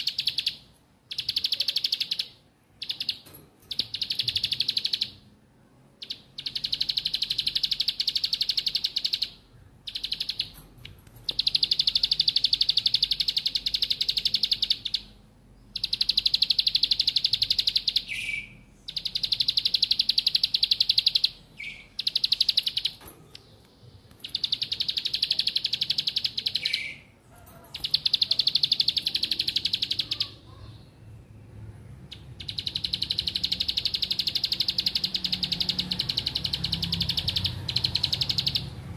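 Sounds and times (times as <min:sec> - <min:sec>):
bird singing rapid trills: 0:00.0 - 0:05.2, 0:06.0 - 0:10.6, 0:11.2 - 0:23.0, 0:24.2 - 0:31.2, 0:32.0 - 0:38.9.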